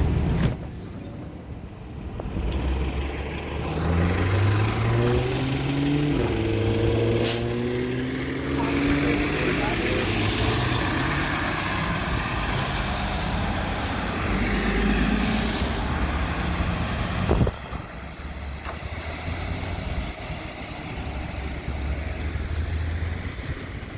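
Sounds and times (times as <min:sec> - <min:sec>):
bus engine and road noise: 0:00.0 - 0:23.9.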